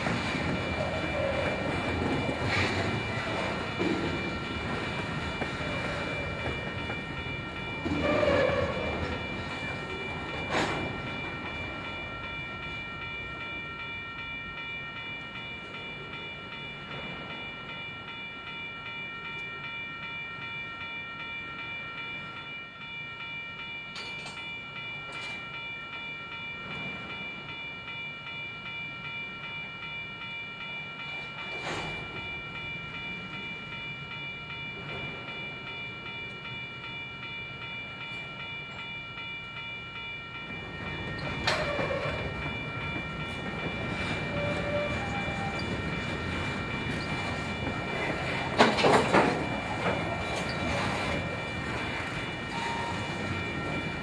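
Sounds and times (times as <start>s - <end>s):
diesel locomotive engine: 0.0s - 20.8s, 31.1s - 54.0s.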